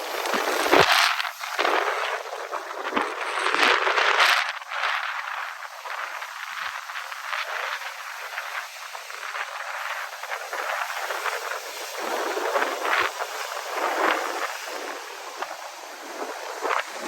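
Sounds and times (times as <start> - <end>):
ocean surf: 0.0 - 17.0
wind: 0.0 - 17.0.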